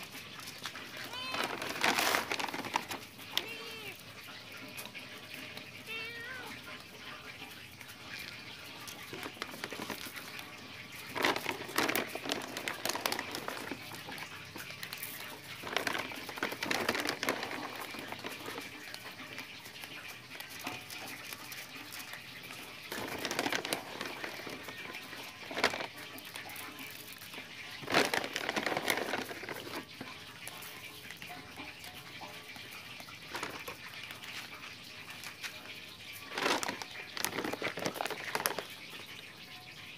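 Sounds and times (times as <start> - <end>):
cats eating: 0.0 - 39.9.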